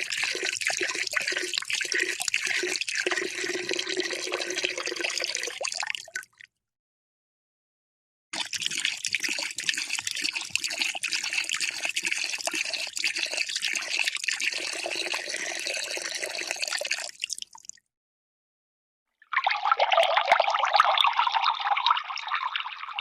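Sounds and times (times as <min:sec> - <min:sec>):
water pouring into a cup: 0:00.0 - 0:06.5, 0:08.4 - 0:17.8, 0:19.3 - 0:23.0.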